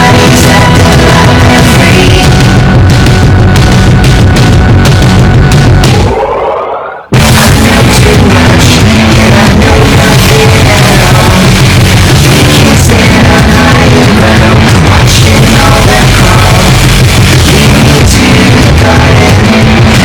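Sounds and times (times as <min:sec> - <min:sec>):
loud rock music with singing: 0:00.0 - 0:20.0.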